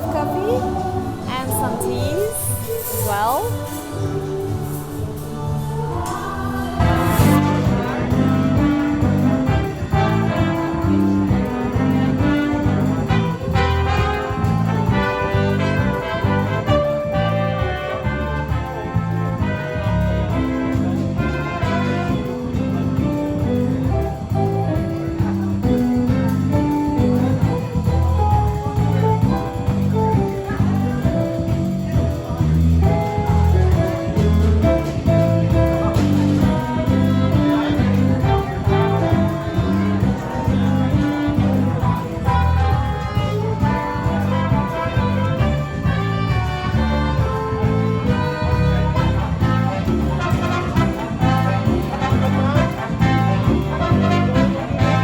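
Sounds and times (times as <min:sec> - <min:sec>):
instrumental music with bass line: 0:06.8 - 0:55.0.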